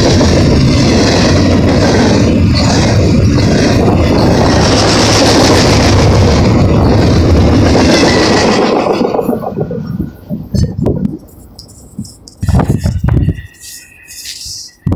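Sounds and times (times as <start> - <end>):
train wheels rumbling on rail: 0.0 - 14.9.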